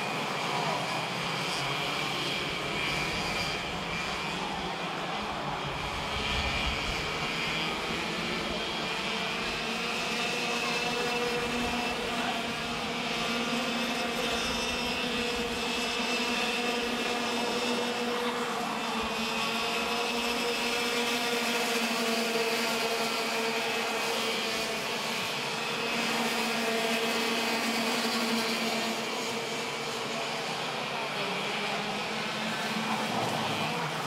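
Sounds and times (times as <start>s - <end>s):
kart engines buzzing at high revs: 0.0s - 34.0s.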